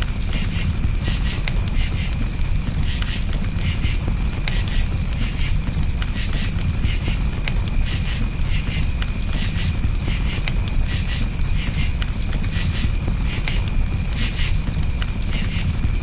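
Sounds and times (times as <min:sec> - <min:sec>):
campfire crackling: 0:00.0 - 0:16.0
crickets chirping: 0:00.0 - 0:16.0
low rumble of flames: 0:00.0 - 0:16.0.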